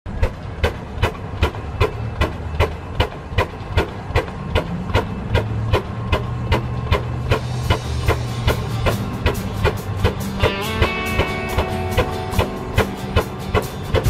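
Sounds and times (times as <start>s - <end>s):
engine exhaust puffing: 0.1s - 14.0s
low engine rumble: 0.1s - 14.0s.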